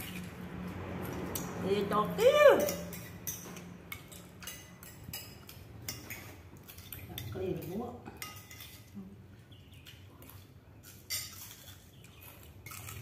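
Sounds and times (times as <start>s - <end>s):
spoons clinking against bowls: 1.1s - 9.0s, 9.8s - 13.0s.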